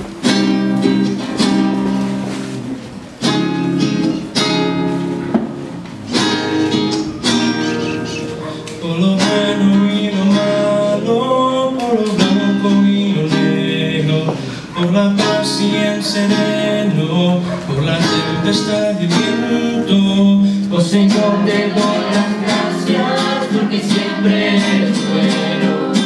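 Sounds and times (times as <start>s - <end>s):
acoustic guitars strumming: 0.0s - 26.0s.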